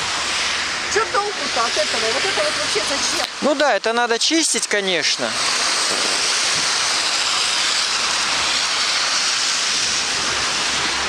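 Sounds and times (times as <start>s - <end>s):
heavy rain on wet street: 0.0s - 11.0s.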